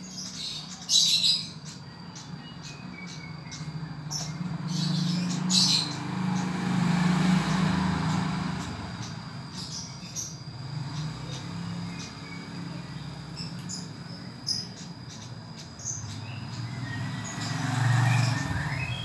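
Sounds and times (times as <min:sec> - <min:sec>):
low vehicle hum: 0:00.0 - 0:19.0
songbird chirping: 0:00.0 - 0:19.0.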